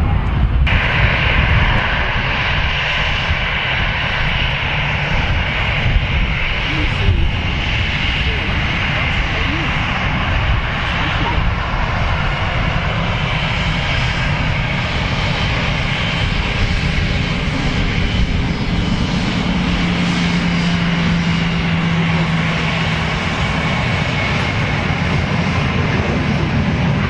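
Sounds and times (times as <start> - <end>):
aircraft engines running: 0.0 - 27.0.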